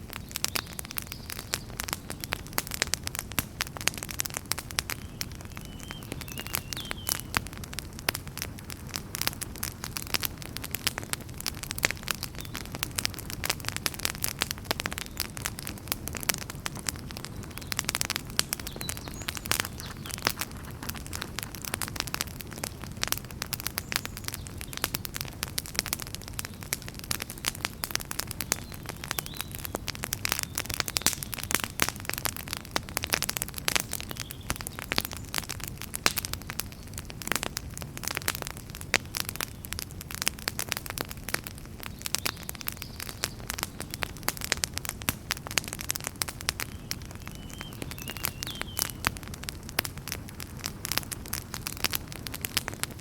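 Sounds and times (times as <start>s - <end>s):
burning logs crackling: 0.0s - 53.0s
low rumble of flames: 0.0s - 53.0s.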